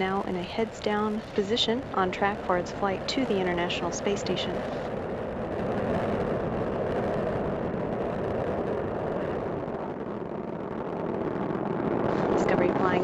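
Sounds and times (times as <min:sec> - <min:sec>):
rocket engine roar: 0:00.0 - 0:13.0.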